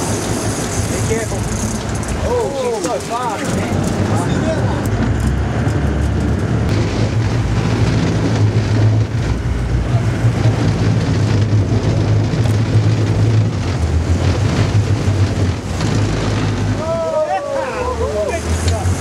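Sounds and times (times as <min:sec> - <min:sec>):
boat engine drone: 0:00.0 - 0:19.0
water noise: 0:00.0 - 0:19.0
wind: 0:00.0 - 0:19.0.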